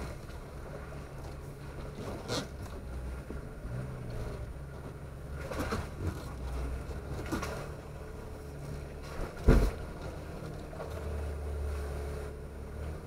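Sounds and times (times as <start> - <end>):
engine running low: 0.0 - 13.0.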